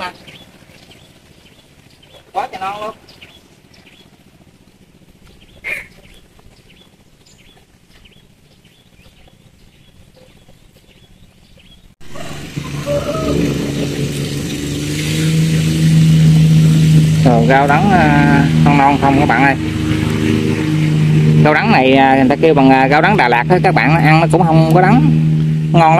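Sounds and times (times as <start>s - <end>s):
engine running with low hum: 0.0s - 25.9s.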